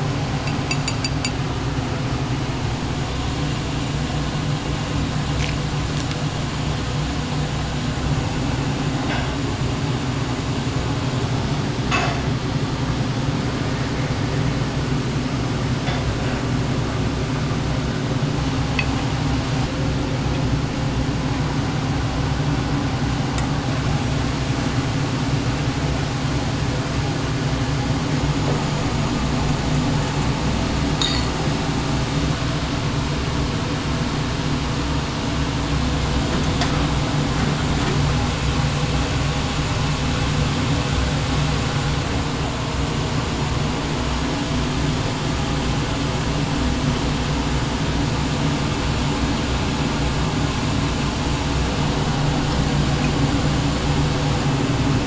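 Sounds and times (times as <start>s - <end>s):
ventilation fan drone: 0.0s - 55.0s.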